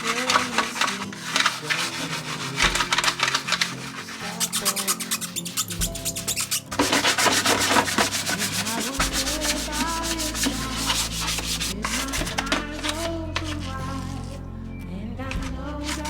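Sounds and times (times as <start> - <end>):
brush scrubbing surface: 0.0 - 14.3.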